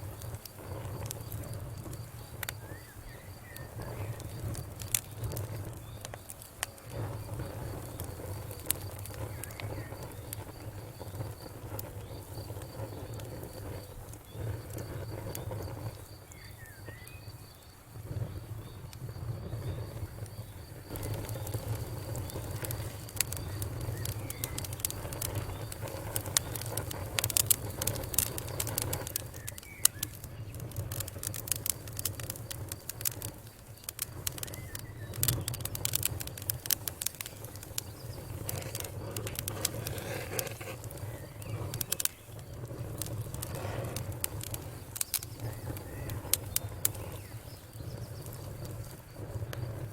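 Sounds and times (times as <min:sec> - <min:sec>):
low rumble of flames: 0:00.0 - 0:49.9
wood fire crackling: 0:00.0 - 0:49.9.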